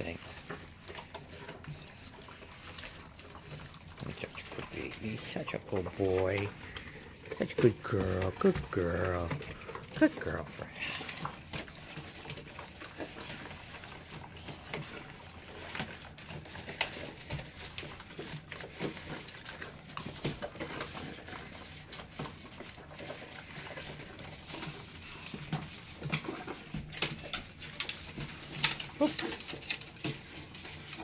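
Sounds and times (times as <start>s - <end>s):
puppies chewing food: 0.0s - 31.0s.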